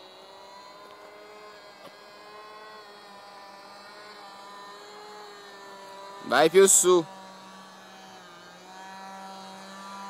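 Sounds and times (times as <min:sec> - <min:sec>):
model airplane motor droning: 0:00.0 - 0:10.0.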